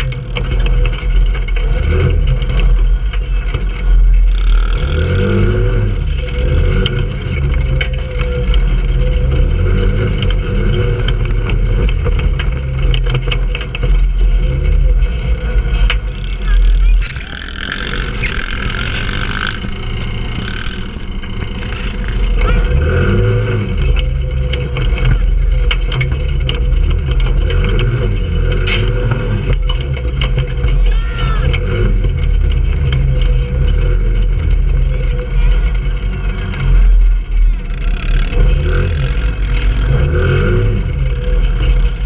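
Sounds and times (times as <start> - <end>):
go-kart engine revving: 0.0 - 42.0
knocks and rattles: 0.0 - 42.0.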